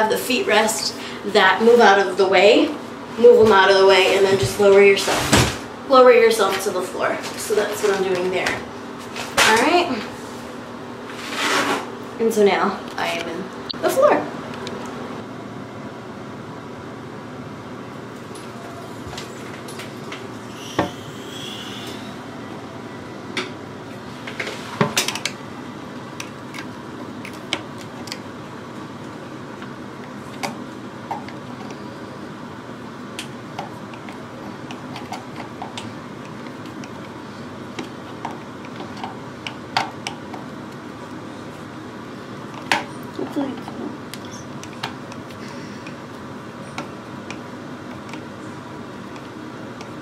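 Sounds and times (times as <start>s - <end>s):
steady background hum: 0.0s - 50.0s.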